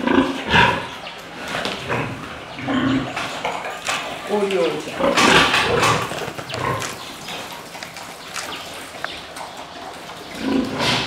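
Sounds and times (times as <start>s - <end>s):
pig grunting: 0.0s - 7.8s, 9.7s - 11.0s.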